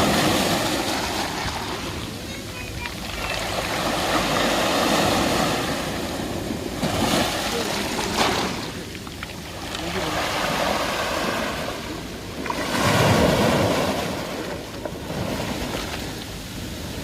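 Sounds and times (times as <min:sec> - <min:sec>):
sea waves washing ashore: 0:00.0 - 0:17.0.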